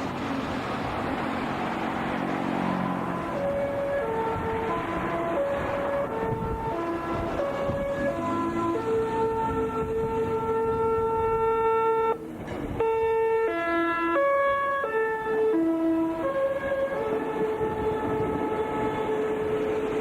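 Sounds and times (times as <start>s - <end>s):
train musical horn melody: 2.1s - 20.0s.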